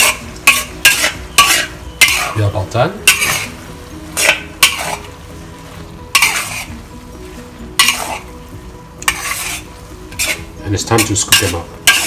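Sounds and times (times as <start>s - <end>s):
metal spatula scraping wok: 0.0s - 12.0s
noodles sizzling in wok: 0.0s - 12.0s.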